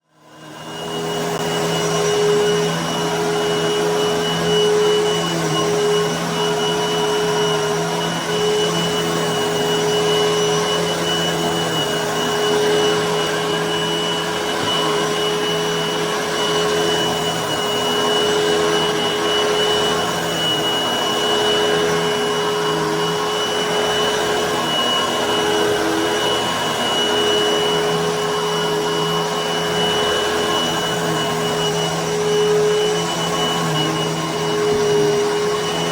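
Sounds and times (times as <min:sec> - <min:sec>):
vacuum cleaner on carpet: 0:00.0 - 0:35.9.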